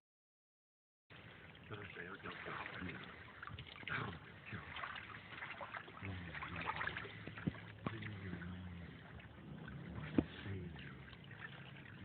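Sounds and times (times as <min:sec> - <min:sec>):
water splashing and trickling: 0:01.1 - 0:12.0.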